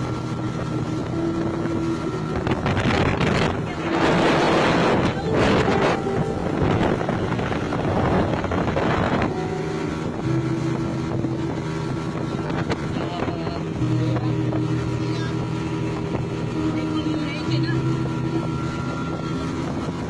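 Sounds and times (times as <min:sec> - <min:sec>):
boat engine humming: 0:00.0 - 0:20.0
rush of wind and water: 0:00.0 - 0:20.0.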